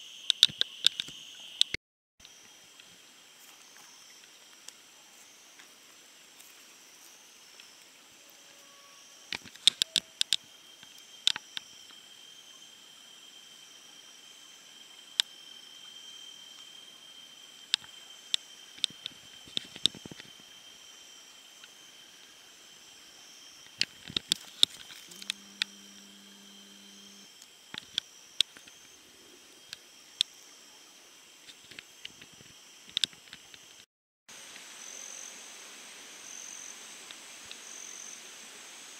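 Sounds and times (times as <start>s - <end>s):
forest insects droning: 0.0s - 38.9s.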